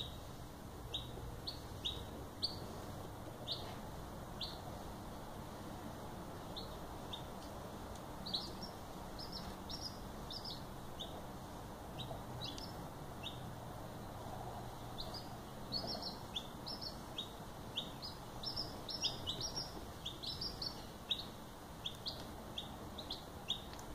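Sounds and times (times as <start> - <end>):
chicks peeping: 0.0 - 4.9, 6.3 - 23.9
steady low hiss: 0.0 - 23.9.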